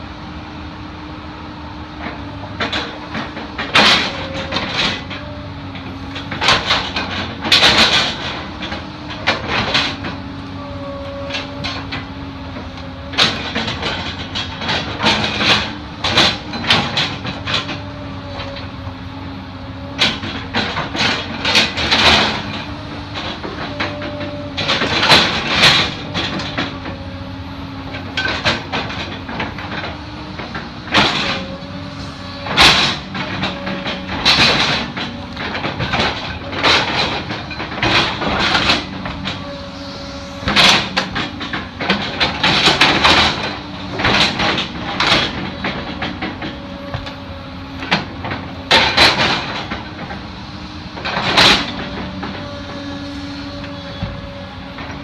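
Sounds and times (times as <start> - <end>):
excavator engine running: 0.0 - 55.0
hydraulic whine: 0.0 - 55.0.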